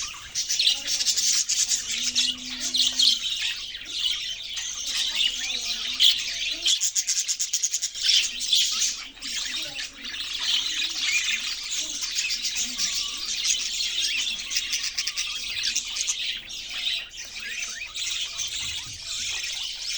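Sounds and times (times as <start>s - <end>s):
budgies chattering and chirping: 0.0s - 19.9s.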